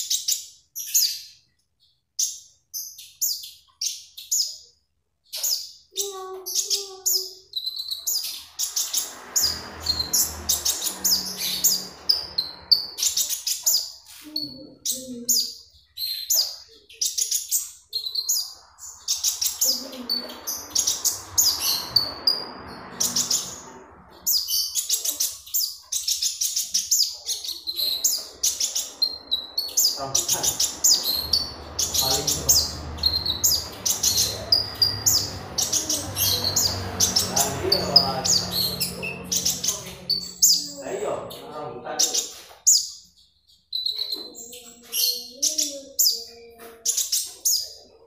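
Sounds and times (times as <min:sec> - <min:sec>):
sunbird singing chirps and trills: 0:00.0 - 0:48.0.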